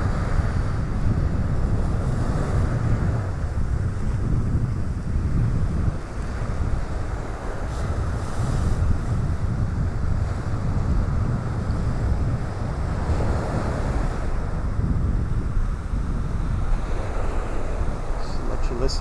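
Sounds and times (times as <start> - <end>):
waves breaking on beach: 0.0 - 19.0
wind buffeting microphone: 0.0 - 19.0.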